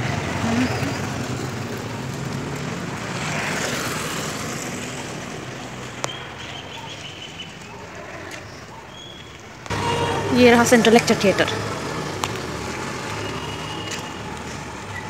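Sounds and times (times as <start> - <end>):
motor vehicle passing: 0.0 - 8.7, 9.6 - 15.0.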